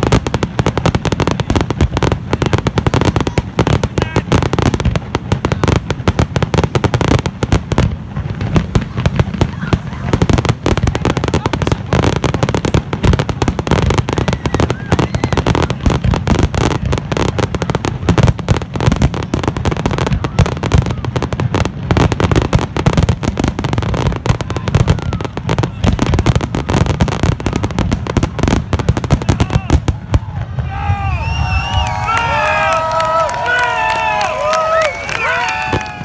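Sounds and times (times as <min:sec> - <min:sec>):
fireworks bursting: 0:00.0 - 0:36.0.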